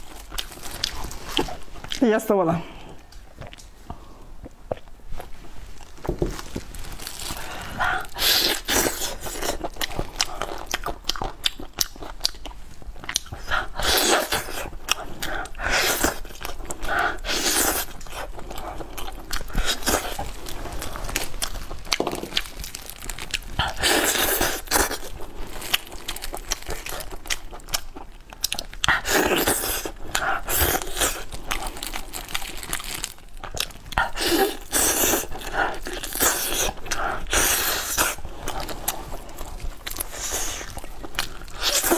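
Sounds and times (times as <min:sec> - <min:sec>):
biting and chewing: 0:04.4 - 0:41.9.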